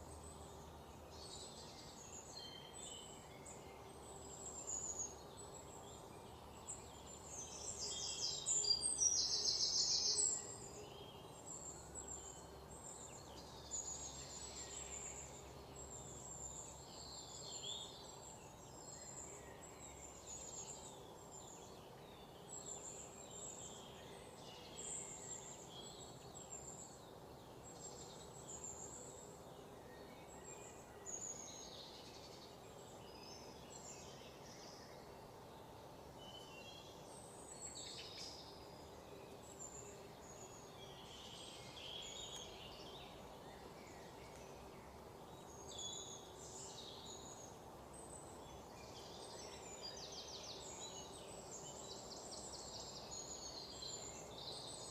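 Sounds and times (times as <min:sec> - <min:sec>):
faint background noise: 0:00.0 - 0:54.9.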